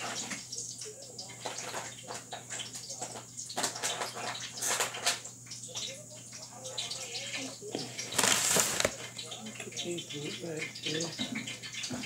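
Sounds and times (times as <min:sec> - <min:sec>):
grease crackling and hissing: 0:00.0 - 0:12.0
grease popping: 0:00.0 - 0:12.0.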